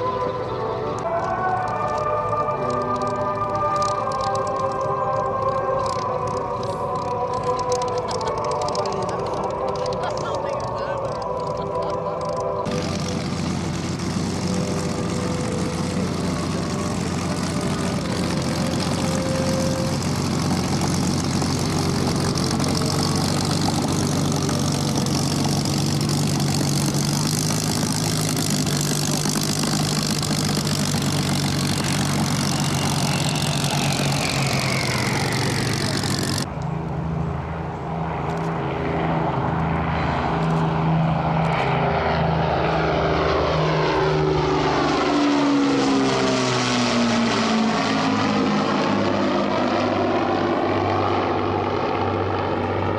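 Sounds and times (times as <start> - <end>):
bomber engines flying past: 0.0 - 52.9
piston aircraft engine running: 0.0 - 52.9
propeller turning: 0.0 - 52.9.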